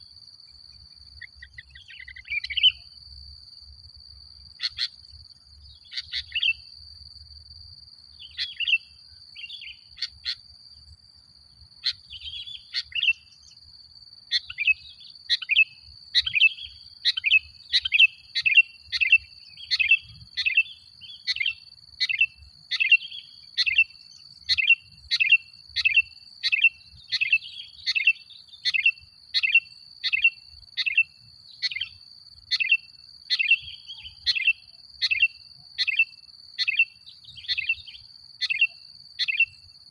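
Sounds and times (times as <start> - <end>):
bird chirping: 0.0 - 3.3, 4.0 - 7.4, 8.0 - 39.8.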